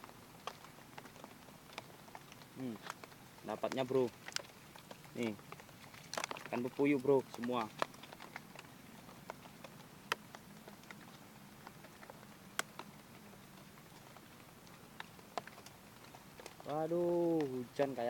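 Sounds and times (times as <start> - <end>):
faint steady rain hiss: 0.0 - 18.0
raindrops tapping: 0.0 - 18.0.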